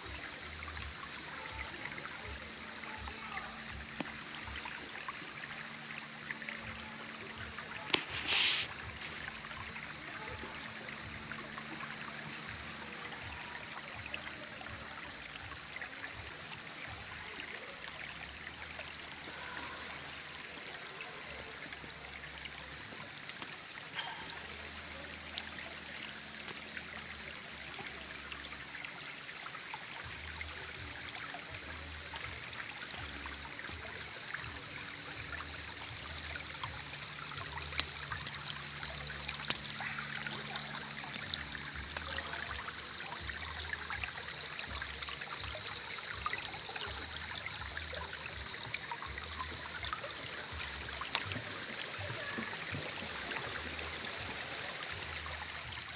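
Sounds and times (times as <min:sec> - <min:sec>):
creek water babbling over stones: 0:00.0 - 0:55.9.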